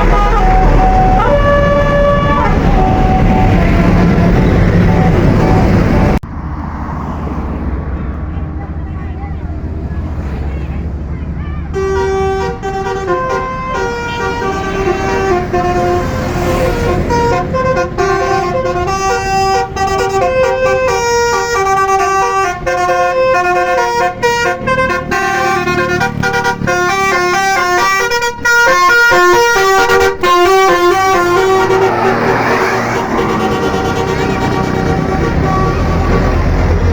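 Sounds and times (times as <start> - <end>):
bus horn playing a tune: 0.0 - 6.2, 11.3 - 36.9
low engine rumble: 0.0 - 36.9.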